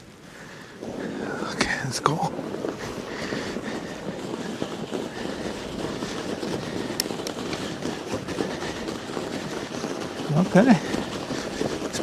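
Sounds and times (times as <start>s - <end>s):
bike tyres crunching snow: 0.0s - 12.0s.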